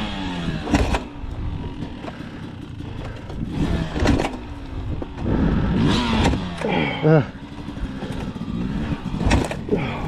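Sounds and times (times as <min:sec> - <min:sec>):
dirt bike engine sputtering: 0:00.0 - 0:10.0
dirt bike kick-started: 0:00.2 - 0:10.0.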